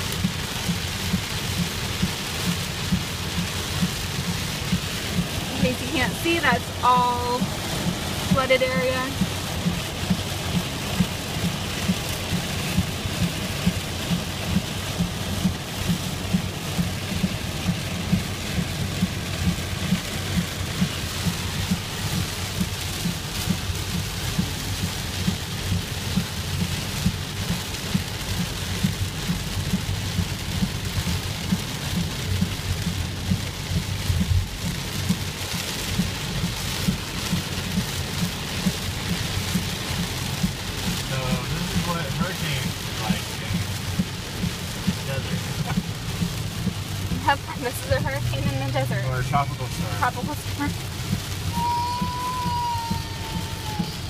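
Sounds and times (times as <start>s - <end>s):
regular low thump: 0.0s - 51.5s
heavy rain drumming on car: 0.0s - 54.0s
tyres rumbling on wet road: 0.0s - 54.0s.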